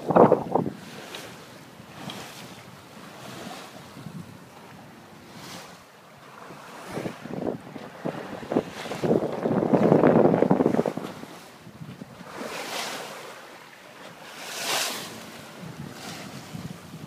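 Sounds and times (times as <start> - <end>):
wind buffeting microphone: 0.0 - 5.8, 6.4 - 13.3, 14.3 - 17.0
water rushing along boat hull: 0.0 - 17.0.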